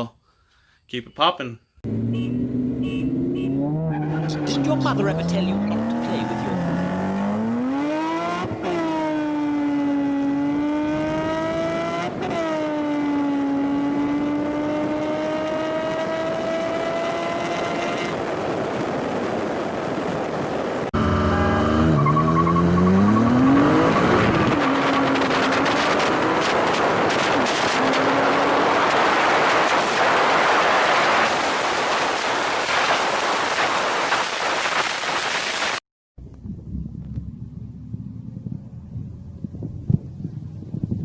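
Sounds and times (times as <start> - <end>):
wind and road noise: 0.8 - 41.0
car engine at full throttle: 1.8 - 41.0.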